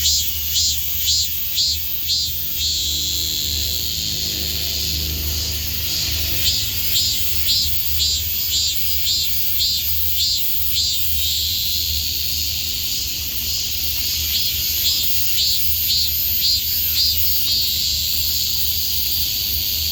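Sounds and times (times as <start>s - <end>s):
cicadas buzzing: 0.0s - 19.9s
pulsing cicada call: 0.0s - 19.9s.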